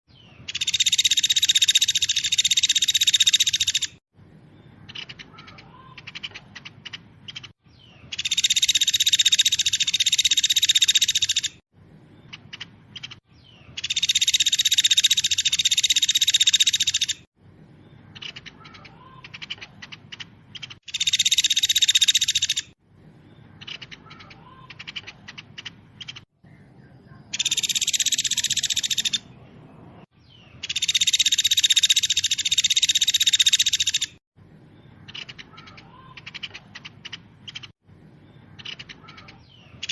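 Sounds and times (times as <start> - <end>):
rapid high bird song: 0.1 - 39.9.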